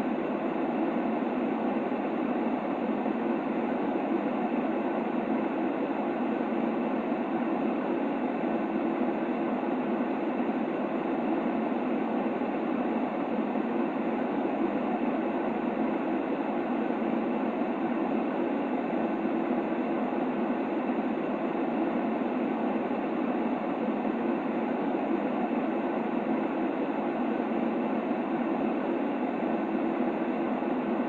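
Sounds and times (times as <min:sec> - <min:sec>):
muffled white noise hiss: 0:00.0 - 0:31.0.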